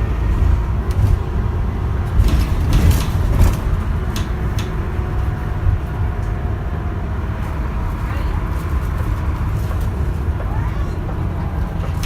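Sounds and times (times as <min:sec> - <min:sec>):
bus interior rumble: 0:00.0 - 0:12.0.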